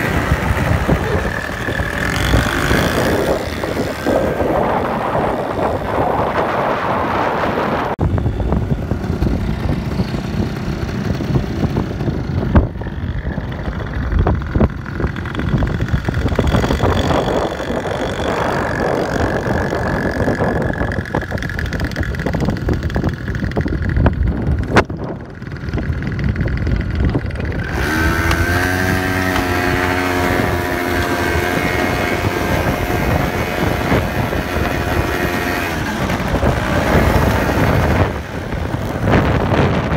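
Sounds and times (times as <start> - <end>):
quad bike engines running: 0.0 - 39.9
wind buffeting microphone: 0.0 - 39.9.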